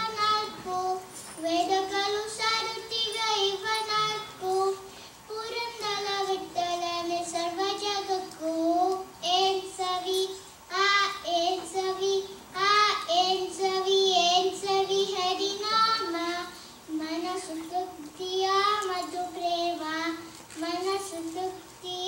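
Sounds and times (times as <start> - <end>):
boy singing unaccompanied: 0.0 - 22.0.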